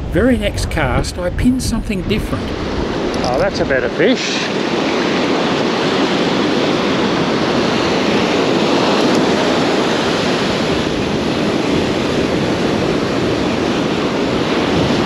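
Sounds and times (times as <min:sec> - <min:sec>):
wind on microphone: 0:00.0 - 0:15.0
surf breaking on beach: 0:00.1 - 0:15.0.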